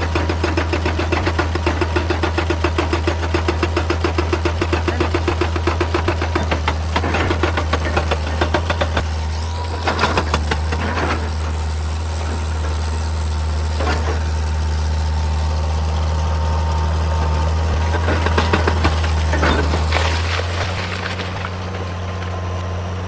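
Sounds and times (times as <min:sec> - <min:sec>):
bursts of clatter: 0:00.0 - 0:15.0, 0:17.6 - 0:22.4
excavator diesel engine running: 0:00.0 - 0:23.0.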